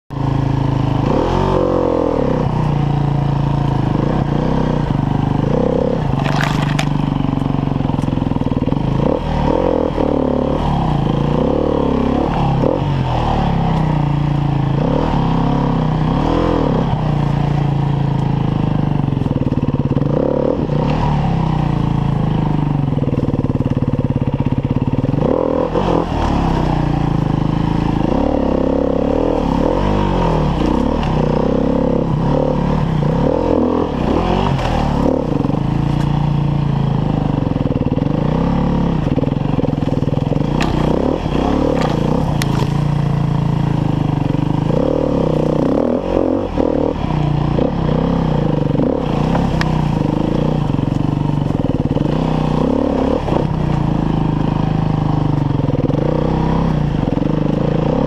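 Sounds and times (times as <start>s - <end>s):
dirt bike engine revving: 0.2s - 19.0s, 19.8s - 22.9s, 23.8s - 58.0s.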